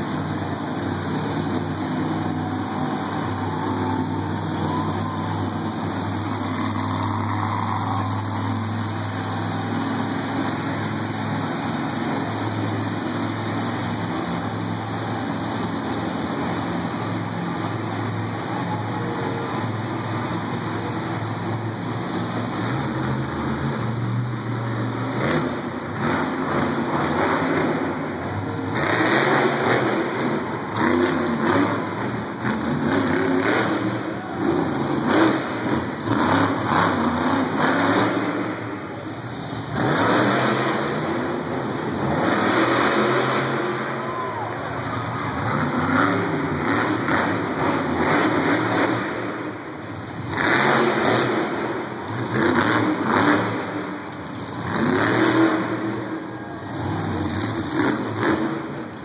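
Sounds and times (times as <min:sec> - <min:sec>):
monster truck engines revving: 0:00.0 - 0:59.0.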